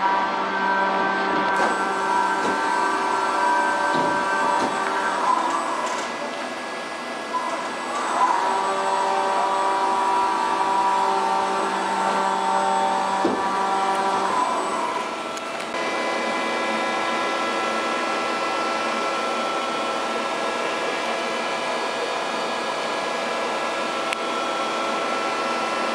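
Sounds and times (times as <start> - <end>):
milling machine whine: 0.0 - 25.9
steady whine and hum: 0.0 - 25.9.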